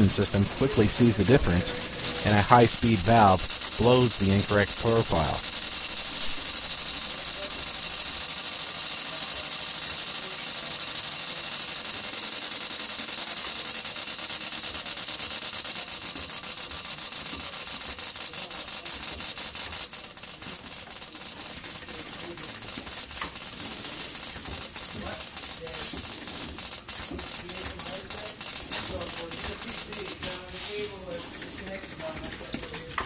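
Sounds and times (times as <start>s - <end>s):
rapid machine clicking: 0.0s - 33.0s.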